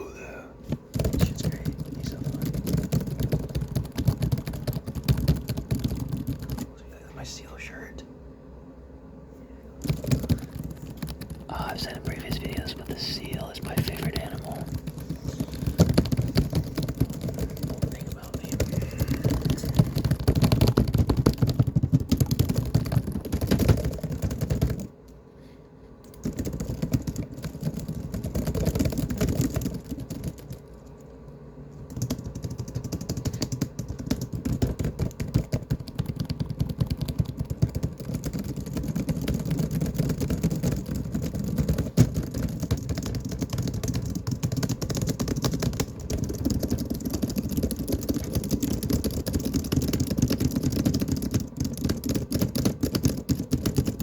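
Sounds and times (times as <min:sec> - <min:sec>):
fast laptop keyboard typing: 0:00.0 - 0:06.7, 0:09.8 - 0:25.0, 0:26.0 - 0:54.0.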